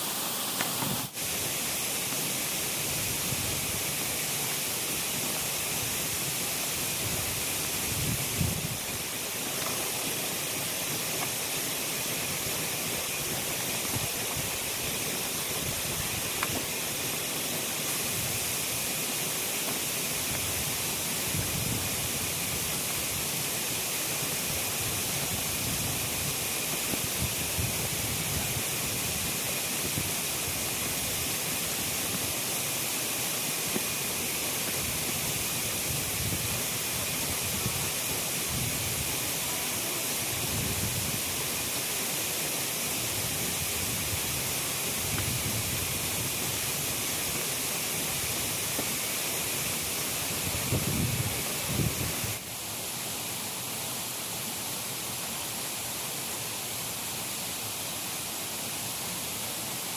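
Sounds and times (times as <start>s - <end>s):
light drizzling rain hiss: 0.0s - 59.9s.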